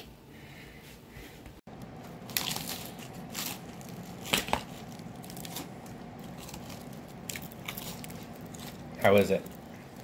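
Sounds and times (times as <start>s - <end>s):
crunching bites of toasted bread: 1.8s - 10.0s.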